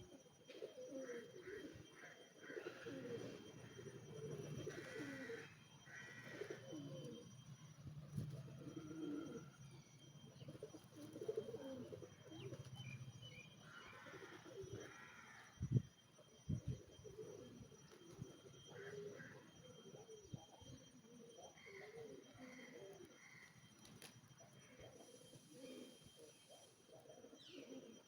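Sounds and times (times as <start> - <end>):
pigeons cooing: 0.0 - 15.5, 16.3 - 28.0.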